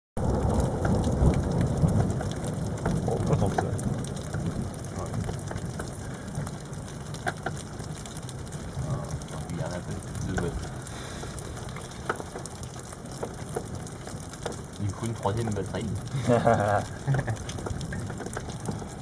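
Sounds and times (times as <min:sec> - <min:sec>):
close raindrops ticking: 0:00.2 - 0:19.0
low rumble of thunder: 0:00.2 - 0:19.0
rain falling: 0:00.2 - 0:19.0.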